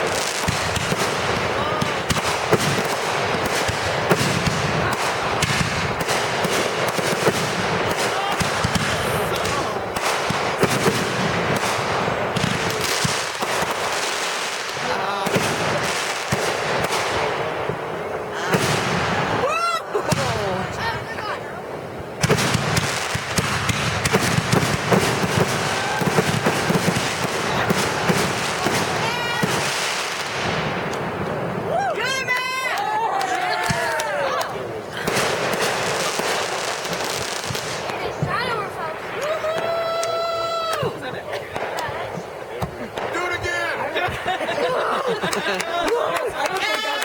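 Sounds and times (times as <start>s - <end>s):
fireworks crackling and popping: 0.0s - 47.0s.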